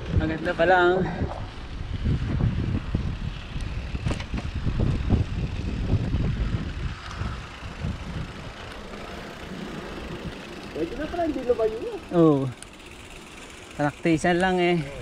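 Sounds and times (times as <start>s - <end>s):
low rumble riding over dirt: 0.0s - 15.0s.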